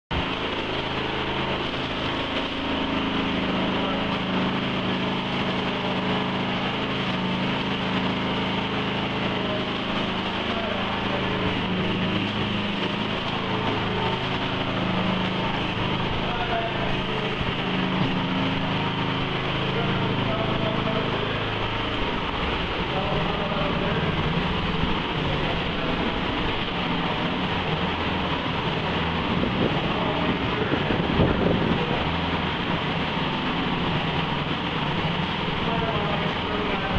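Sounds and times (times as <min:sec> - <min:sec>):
engine droning: 0:00.1 - 0:36.9.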